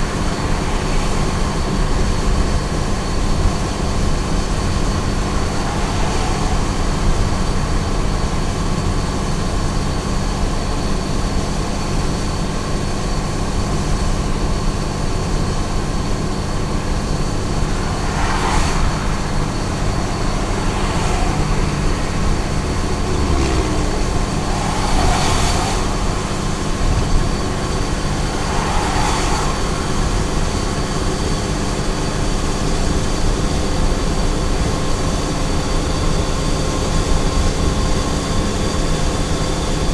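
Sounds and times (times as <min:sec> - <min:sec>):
passing vehicles hiss: 0:00.0 - 0:39.9
truck engine and tyre drone: 0:00.0 - 0:39.9.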